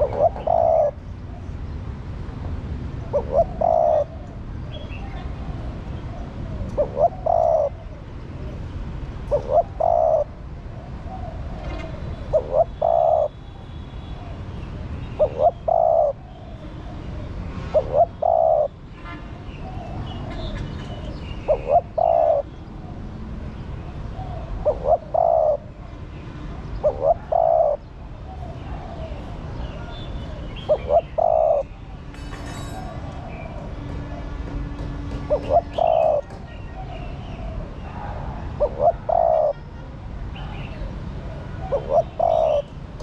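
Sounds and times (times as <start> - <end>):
dove cooing: 0.0 - 1.6, 2.9 - 8.6, 9.3 - 13.4, 14.1 - 18.8, 19.6 - 23.1, 23.9 - 25.9, 26.6 - 32.0, 32.6 - 34.3, 35.2 - 39.6, 40.4 - 42.8.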